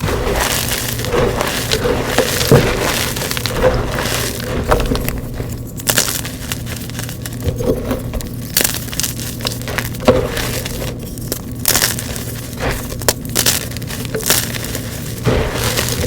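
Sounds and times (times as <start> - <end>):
chalk crunching and crumbling: 0.0 - 16.0.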